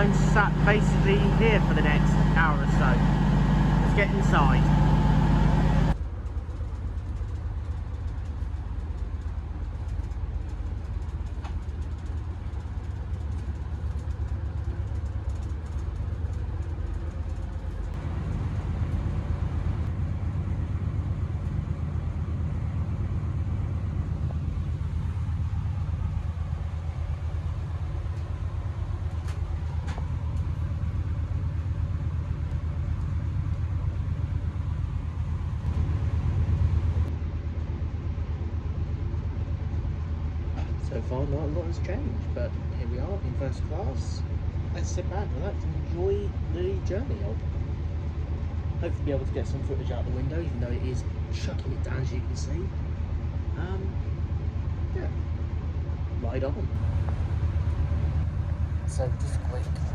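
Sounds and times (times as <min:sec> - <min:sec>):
train diesel engine humming: 0:00.0 - 0:59.9.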